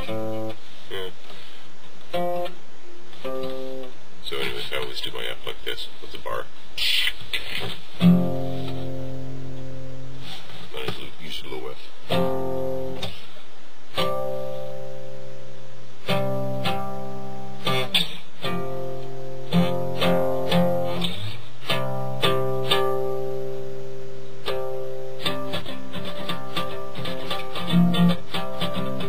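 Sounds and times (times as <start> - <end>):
acoustic guitar strumming: 0.0 - 1.1, 2.1 - 4.7, 7.4 - 10.9, 12.0 - 13.3, 13.9 - 29.0.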